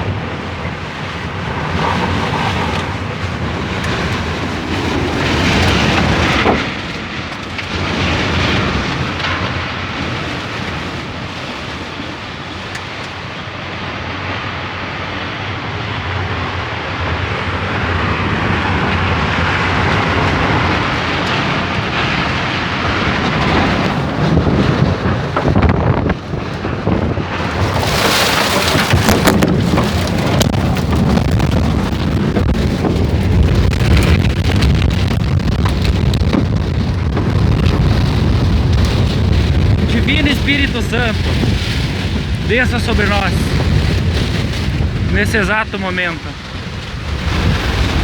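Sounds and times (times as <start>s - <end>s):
rain: 0.0s - 48.0s
storm wind on microphone: 0.0s - 48.0s.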